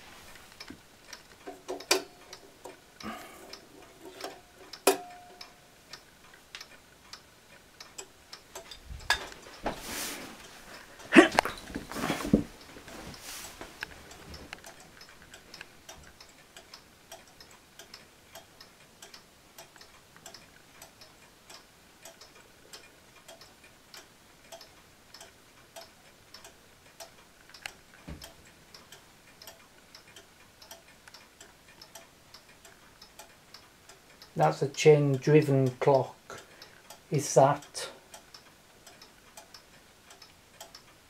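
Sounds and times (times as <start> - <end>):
wall clock ticking: 0.4 - 41.0.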